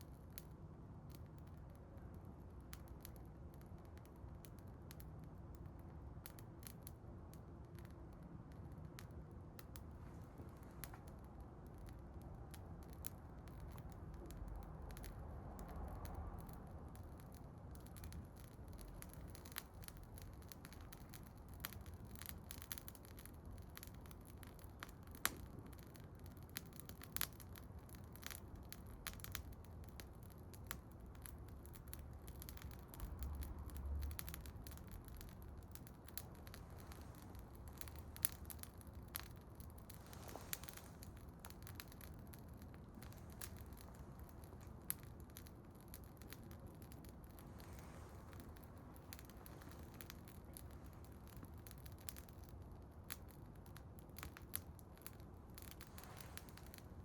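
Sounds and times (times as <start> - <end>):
low rumble of flames: 0.0 - 57.0
wood bonfire crackling: 0.0 - 57.0.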